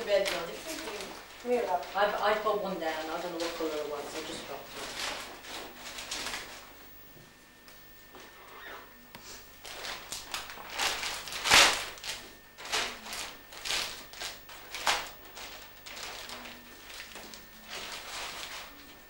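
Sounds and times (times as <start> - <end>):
wrapping rustling and crinkling: 0.0 - 6.8, 9.6 - 19.0.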